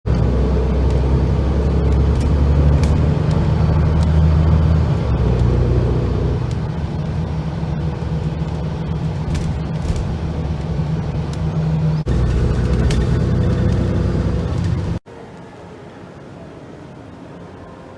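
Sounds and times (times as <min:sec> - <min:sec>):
low engine drone: 0:00.1 - 0:15.0.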